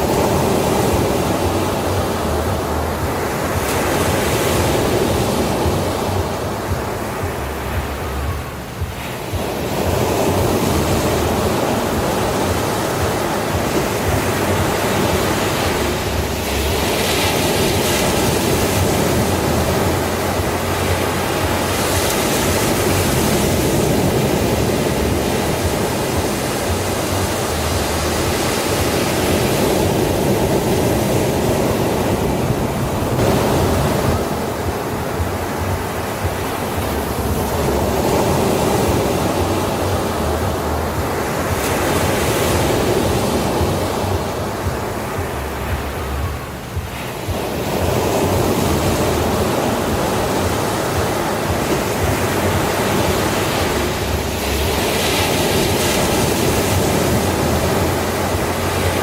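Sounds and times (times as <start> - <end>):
sea waves breaking on beach: 0.0 - 59.0.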